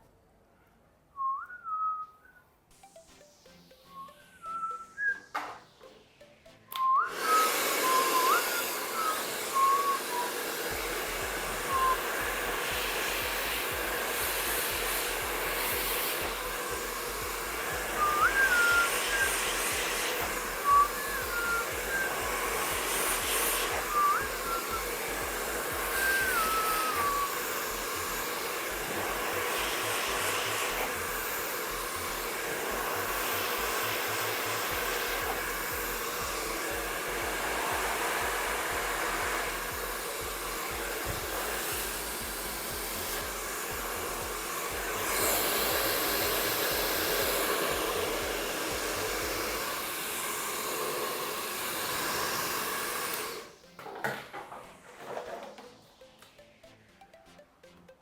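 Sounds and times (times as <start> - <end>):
short whistle-like tones: 1.1 - 50.5
hair dryer blowing: 3.0 - 56.4.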